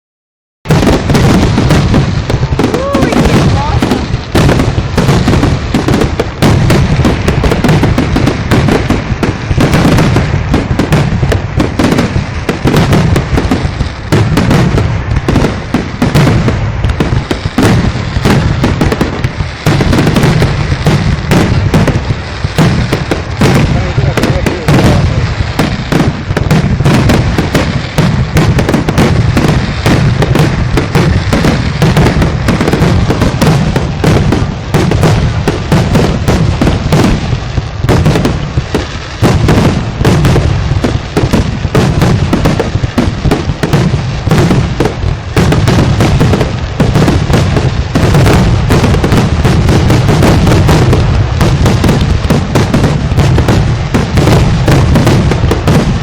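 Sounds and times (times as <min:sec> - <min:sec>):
fireworks shell bursts and crackle: 0:00.7 - 0:56.0.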